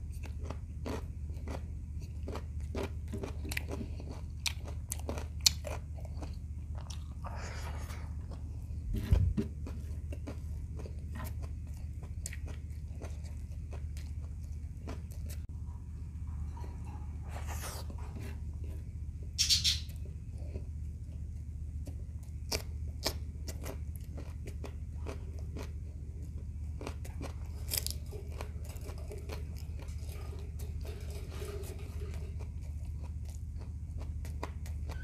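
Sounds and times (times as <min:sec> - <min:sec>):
chewing and crunching: 0:00.0 - 0:35.0
low hum: 0:05.8 - 0:35.0.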